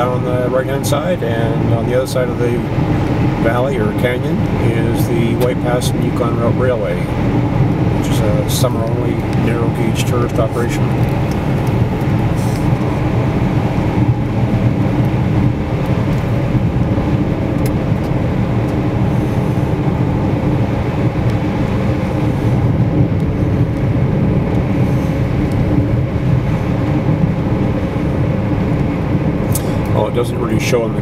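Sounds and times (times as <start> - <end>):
low engine hum: 0.0 - 31.0
tyres rushing on wet road: 0.0 - 31.0.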